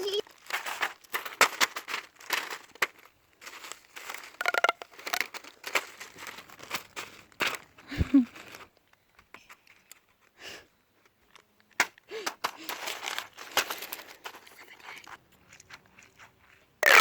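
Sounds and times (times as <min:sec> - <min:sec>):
crinkling rustles: 0:00.0 - 0:10.4, 0:11.0 - 0:17.0.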